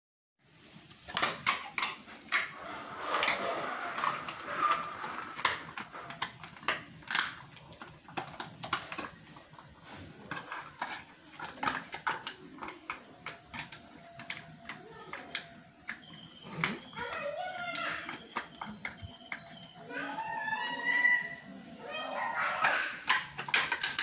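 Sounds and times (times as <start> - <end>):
dog crunching bones: 1.0 - 19.8, 22.4 - 24.0.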